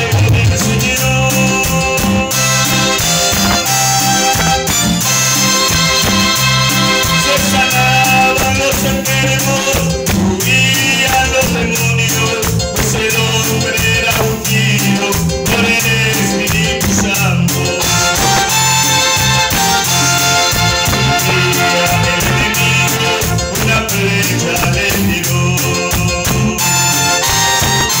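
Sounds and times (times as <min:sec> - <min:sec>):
latin music on electronic keyboards: 0:00.0 - 0:28.0.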